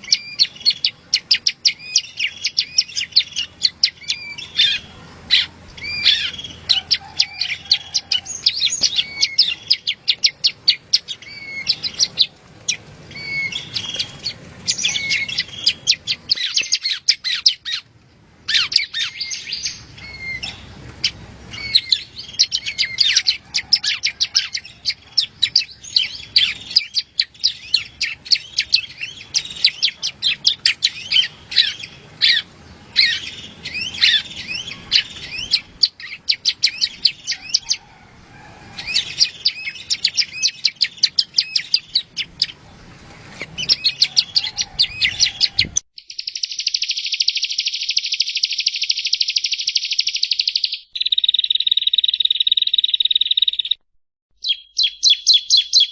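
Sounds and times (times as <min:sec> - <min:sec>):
bird singing sharp chirps and trills: 0:00.0 - 0:17.9, 0:18.5 - 0:37.9, 0:38.8 - 0:42.9, 0:43.6 - 0:53.8, 0:54.4 - 0:55.9.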